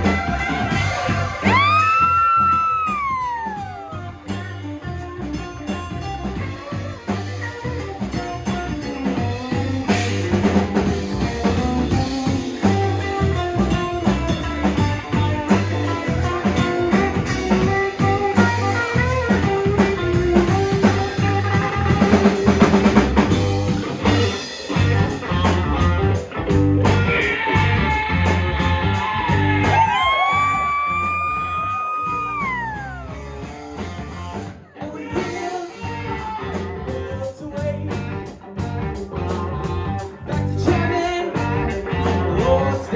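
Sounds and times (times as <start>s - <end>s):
bass guitar: 0.0s - 42.9s
drum kit beat: 0.0s - 42.9s
lead guitar lines: 0.0s - 42.9s
live rock band playing: 0.0s - 42.9s.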